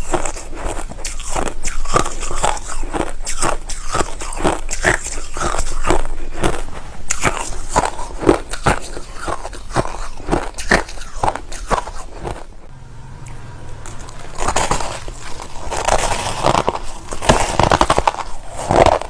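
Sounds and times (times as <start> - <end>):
chewing crushed ice: 0.0 - 12.5, 13.8 - 19.0.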